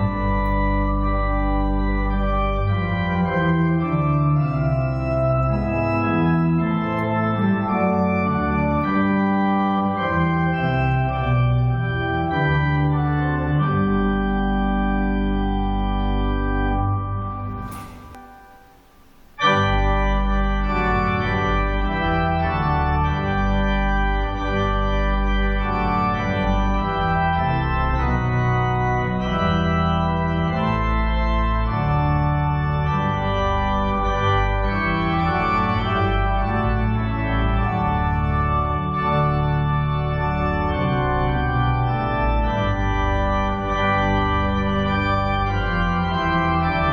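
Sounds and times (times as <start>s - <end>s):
church organ chords: 0.0s - 46.9s
deep bass organ note: 0.0s - 46.9s.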